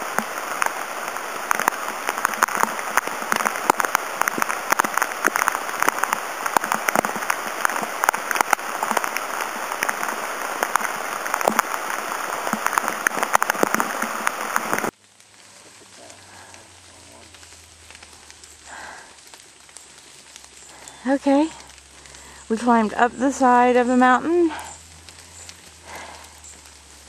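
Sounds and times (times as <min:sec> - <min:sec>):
hailstones ticking: 0:00.0 - 0:27.0
rain hissing: 0:00.0 - 0:27.0.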